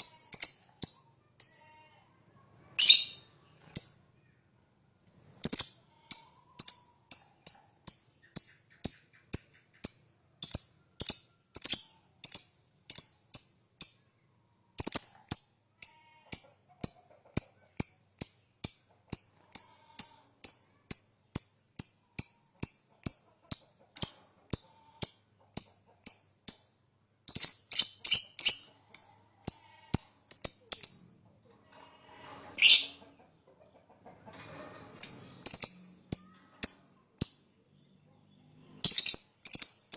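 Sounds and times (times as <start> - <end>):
lovebird chirping: 0.0 - 1.7, 2.8 - 4.1, 5.4 - 14.1, 14.8 - 31.1, 32.6 - 33.0, 35.0 - 39.9.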